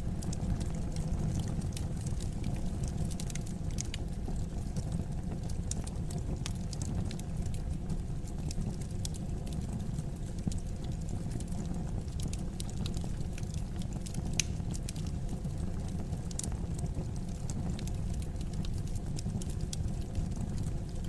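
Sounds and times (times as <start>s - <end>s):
low rumble of flames: 0.0s - 21.0s
wood fire snapping and popping: 0.0s - 21.0s.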